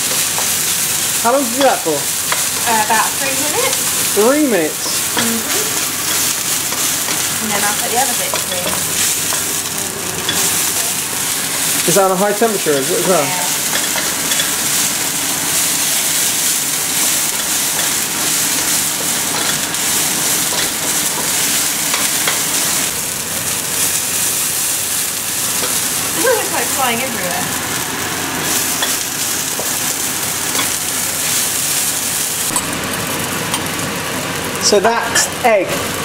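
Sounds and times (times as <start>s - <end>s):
egg sizzling in a wok: 0.0s - 36.0s.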